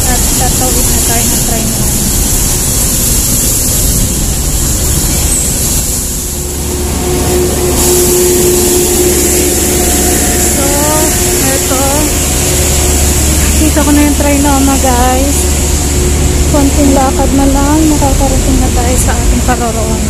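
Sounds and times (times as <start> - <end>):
engine drone: 0.0 - 20.0
rumble of passing vehicles: 0.0 - 20.0.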